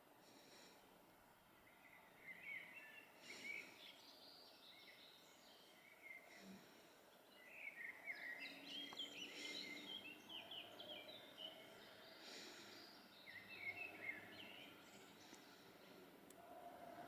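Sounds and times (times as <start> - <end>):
quiet outdoor background noise: 0.0 - 17.0
faint songbird chirping: 0.2 - 17.0.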